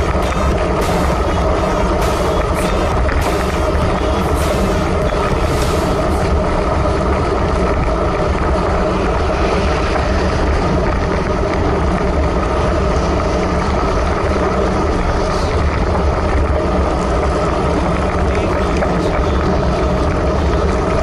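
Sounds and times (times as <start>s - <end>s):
bike tyres hissing on wet asphalt: 0.0s - 18.0s
wind buffeting microphone: 0.0s - 21.0s.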